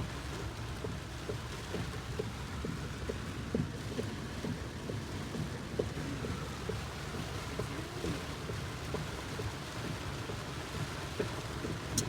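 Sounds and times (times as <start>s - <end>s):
heavy rain on car: 0.0s - 12.0s
low road rumble: 0.0s - 12.0s
raindrops striking car: 0.0s - 12.0s.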